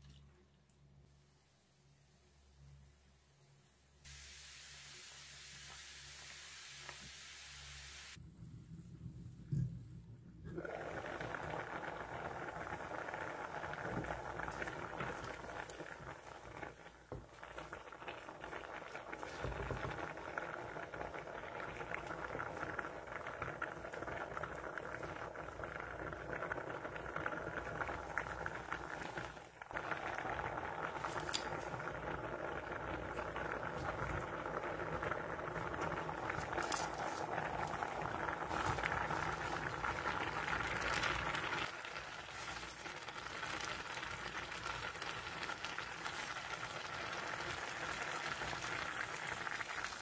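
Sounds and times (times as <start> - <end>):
pot boiling and bubbling: 0.0 - 50.0.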